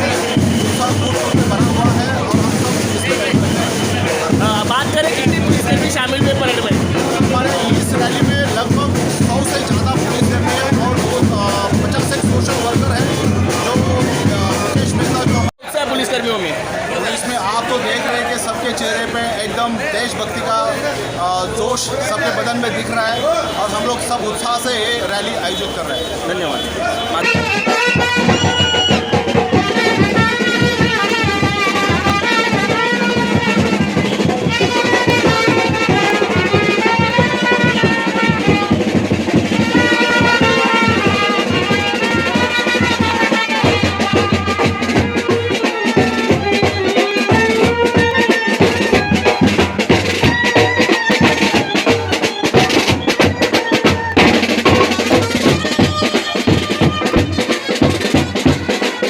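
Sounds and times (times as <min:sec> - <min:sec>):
fast drumming: 0:00.0 - 0:15.9, 0:27.0 - 0:59.0
brass band melody: 0:00.0 - 0:59.0.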